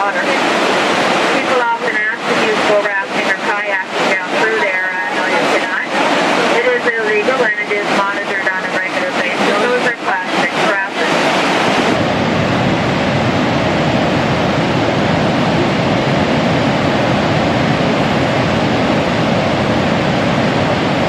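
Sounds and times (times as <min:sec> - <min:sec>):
rushing river water: 0:00.0 - 0:21.0.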